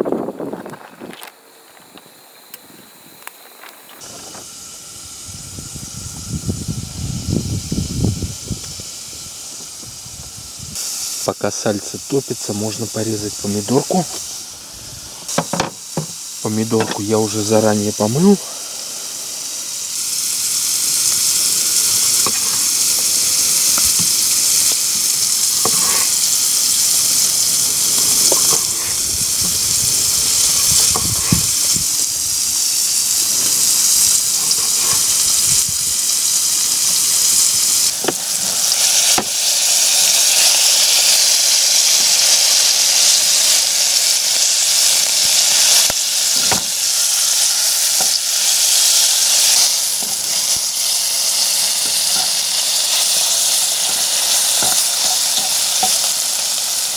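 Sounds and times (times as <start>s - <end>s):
fat sizzling in a frying pan: 3.9s - 56.9s.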